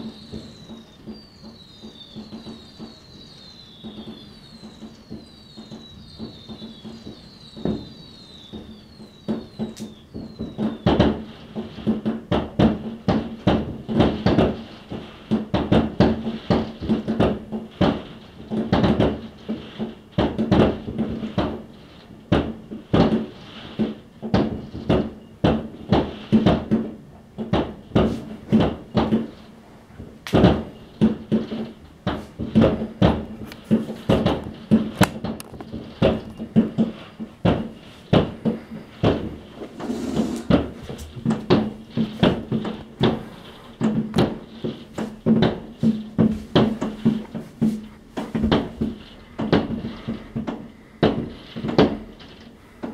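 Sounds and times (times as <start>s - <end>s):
fireworks bangs and pops: 0.0s - 52.9s.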